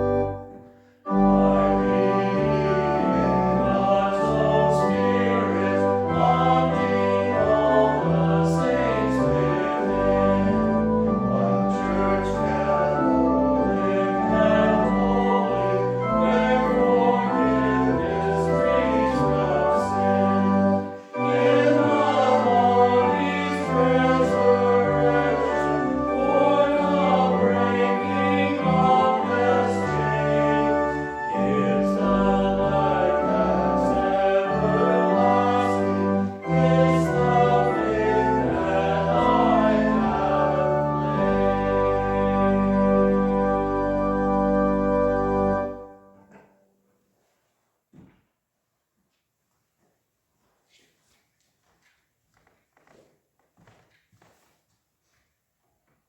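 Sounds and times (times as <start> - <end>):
choir singing a hymn: 0.0 - 46.4
organ: 0.0 - 46.6.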